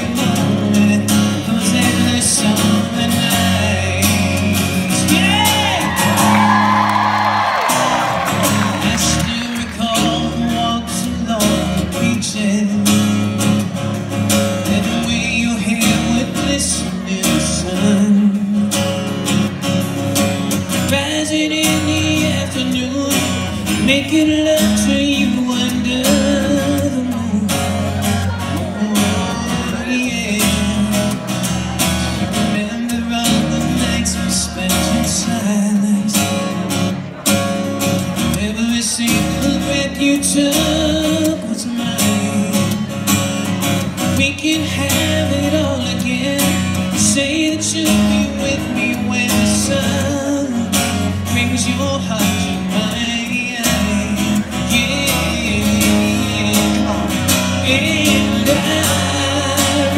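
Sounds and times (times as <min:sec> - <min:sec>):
man singing: 0:00.0 - 0:19.7, 0:20.6 - 0:37.3, 0:38.0 - 0:59.9
strummed acoustic guitar: 0:00.0 - 0:59.9.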